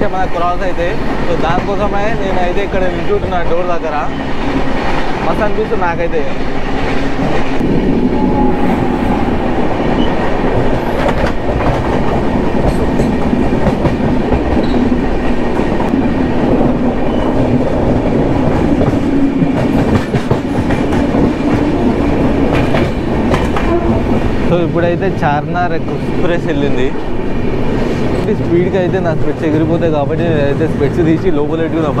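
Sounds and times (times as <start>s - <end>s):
trains rushing past: 0.0s - 32.0s.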